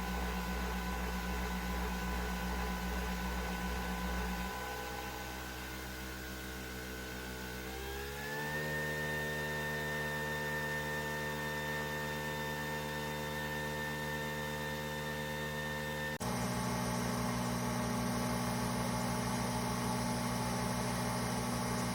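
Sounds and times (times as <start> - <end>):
coffee machine motor hum: 0.0 - 21.9.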